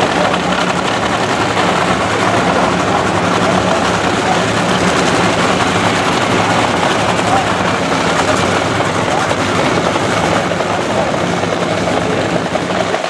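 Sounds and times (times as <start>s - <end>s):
supercharged engine idling loudly: 0.0s - 13.0s.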